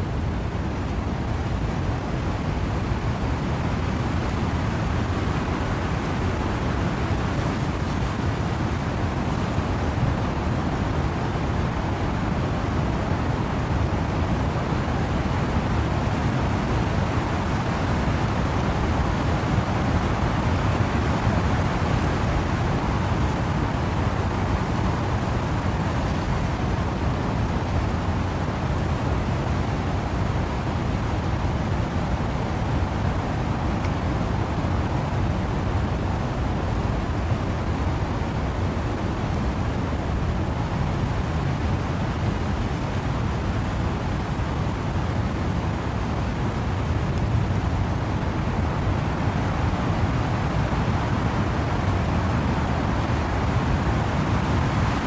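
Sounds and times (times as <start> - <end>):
wind and rain in trees: 0.0 - 55.0.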